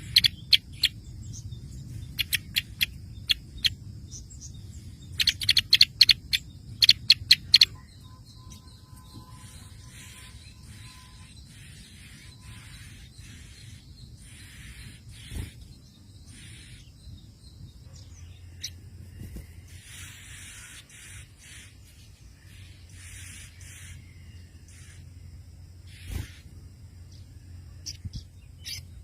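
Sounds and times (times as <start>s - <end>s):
hissy bird calls: 0.0s - 29.0s
steady low hum: 0.0s - 29.0s.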